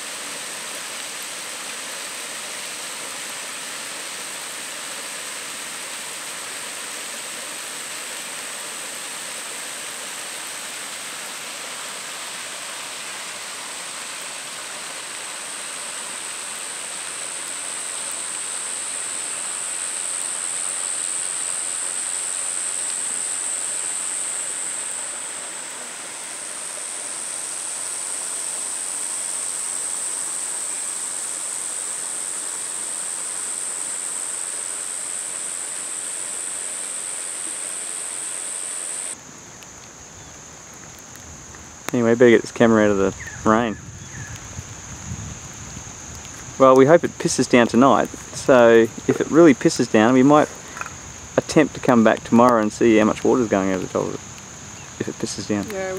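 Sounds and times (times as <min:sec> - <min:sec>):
waterfall rushing: 0:00.0 - 0:39.3, 0:46.3 - 0:55.9.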